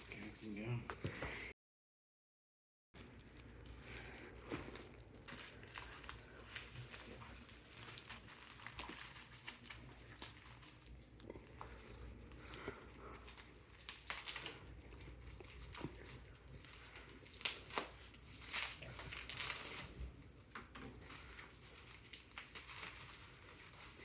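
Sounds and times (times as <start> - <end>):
packaging rustling and crinkling: 3.0 - 24.0.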